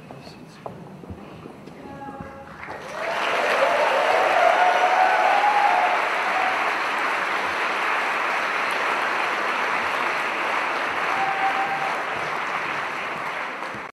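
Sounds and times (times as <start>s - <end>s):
audience applause: 2.6s - 13.9s.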